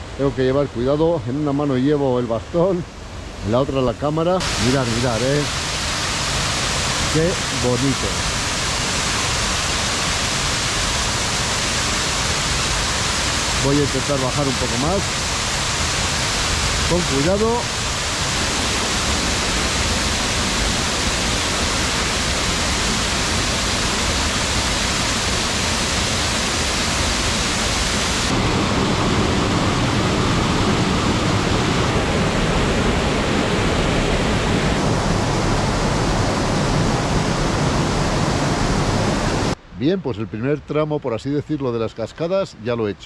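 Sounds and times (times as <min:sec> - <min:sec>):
waterfall rushing: 0:00.0 - 0:39.6.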